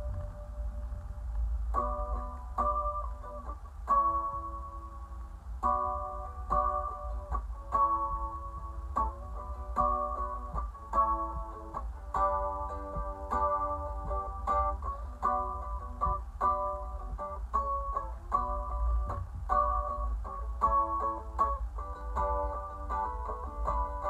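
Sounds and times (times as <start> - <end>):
mandolin played with a pick: 0.0 - 24.0.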